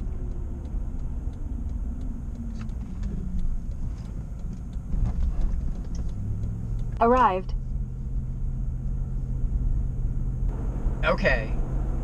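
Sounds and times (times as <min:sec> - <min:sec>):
turn signal ticking: 0:00.0 - 0:10.6
engine and road rumble: 0:00.0 - 0:12.0.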